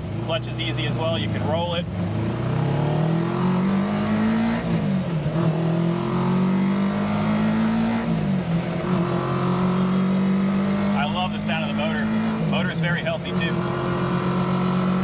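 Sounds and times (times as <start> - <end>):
engine accelerating and shifting gears: 0.0 - 15.0.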